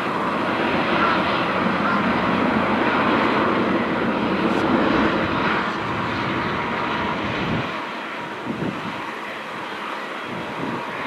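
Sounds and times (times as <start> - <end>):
helicopter rotor noise: 0.0 - 11.0
helicopter turbine whine: 0.0 - 11.0.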